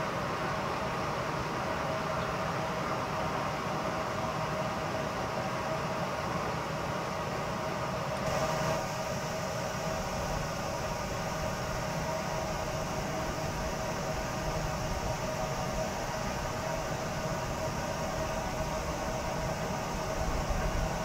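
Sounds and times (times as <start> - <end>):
distant electric train approaching: 0.0 - 21.0
distant town rumble and hiss: 0.0 - 21.0.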